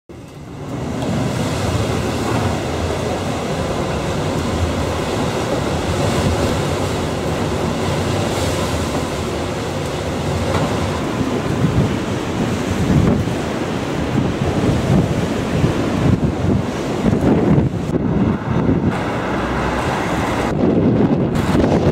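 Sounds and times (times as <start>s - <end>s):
strong storm wind: 0.1s - 21.9s
wind buffeting microphone: 0.1s - 21.9s.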